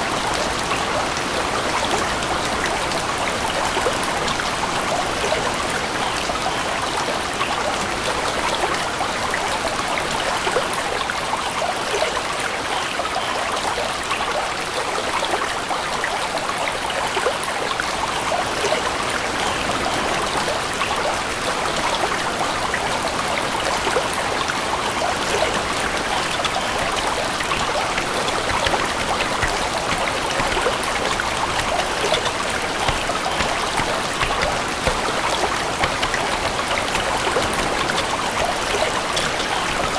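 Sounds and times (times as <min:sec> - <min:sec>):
babbling stream: 0:00.0 - 0:39.9.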